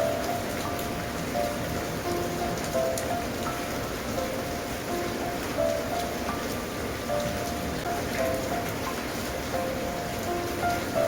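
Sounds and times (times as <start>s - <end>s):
rain pattering on surfaces: 0.0s - 11.0s
soft melody of held notes: 0.0s - 11.0s.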